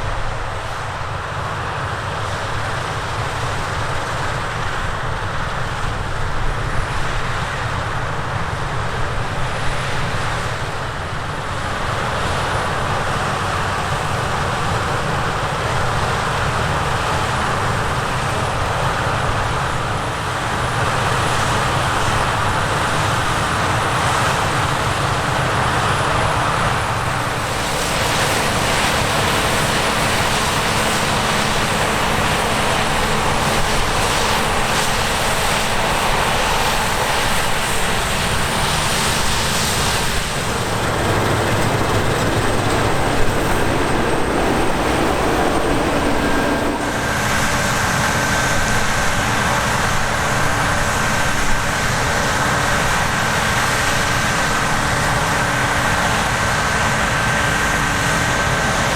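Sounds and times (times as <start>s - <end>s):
heavy diesel machinery running: 0.0s - 58.9s.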